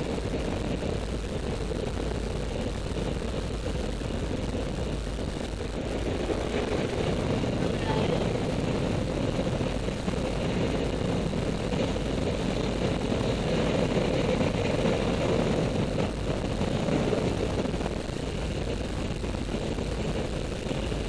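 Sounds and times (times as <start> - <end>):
propeller plane engine drone: 0.0 - 21.0
rushing air: 0.0 - 21.0.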